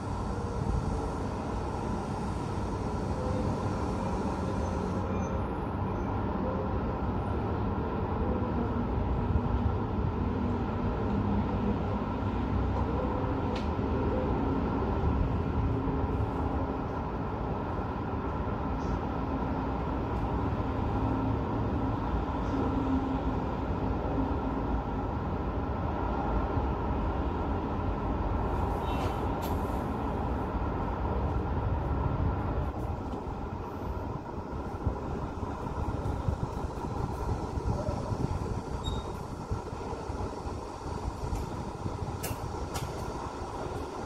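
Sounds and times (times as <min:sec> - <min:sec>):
city road traffic rumble: 0:00.0 - 0:44.0.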